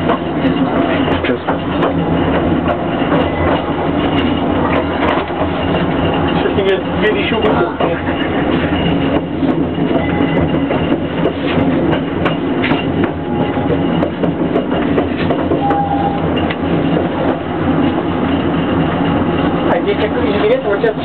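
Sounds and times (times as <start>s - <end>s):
train rumbling: 0.0s - 21.0s
wheels clacking over rail joints: 0.0s - 21.0s.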